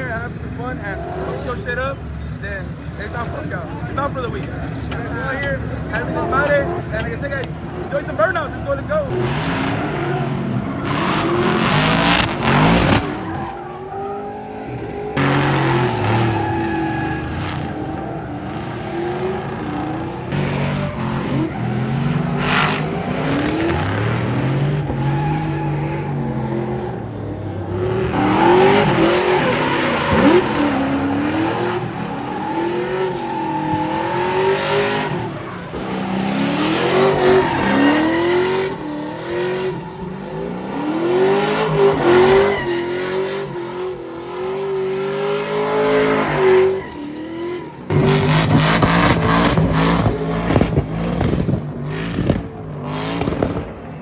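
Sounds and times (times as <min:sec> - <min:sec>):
tires squealing on pavement: 0:00.0 - 0:54.0
truck engine revving: 0:00.0 - 0:54.0.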